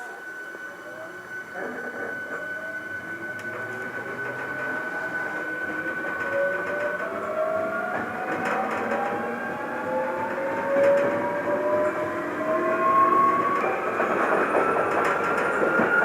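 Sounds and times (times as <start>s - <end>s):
train motor whine: 0.0s - 16.0s
train wheels rolling: 0.0s - 16.0s
faint clicks from rails: 1.6s - 16.0s.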